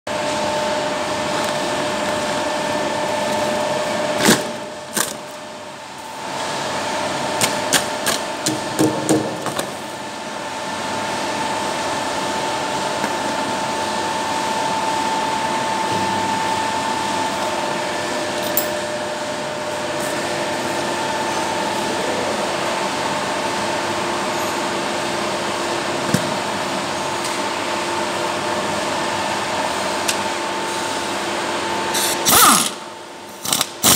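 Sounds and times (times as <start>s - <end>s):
machinery humming: 0.1s - 33.9s.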